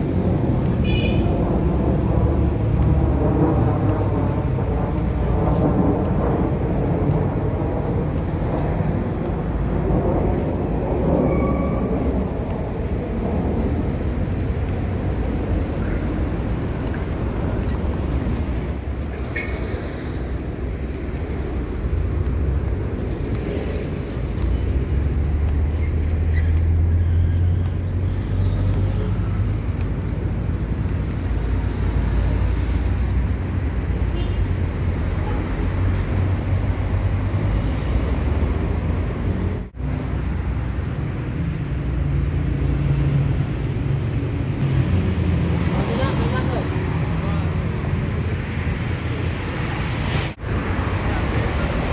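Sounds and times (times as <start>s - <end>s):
passing cars rumbling: 0.0s - 51.9s.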